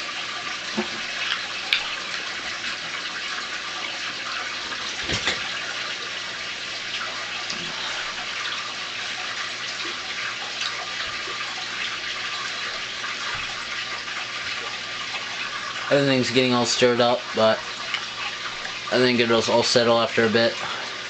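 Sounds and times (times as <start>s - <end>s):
water pouring from hose into tank: 0.0s - 21.0s.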